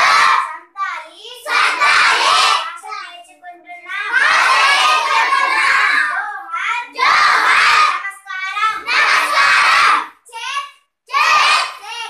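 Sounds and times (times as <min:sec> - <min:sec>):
girls speaking loudly: 0:00.0 - 0:12.0.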